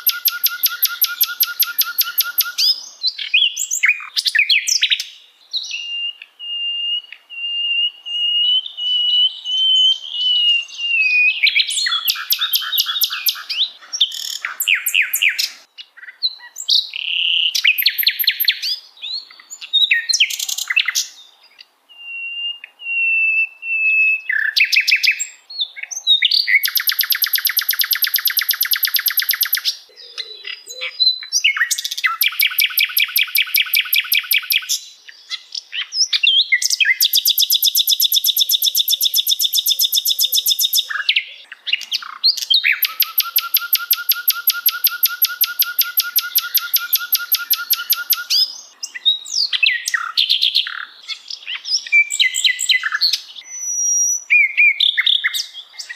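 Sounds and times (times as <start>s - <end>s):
songbird trilling and chirping: 0.0s - 55.9s.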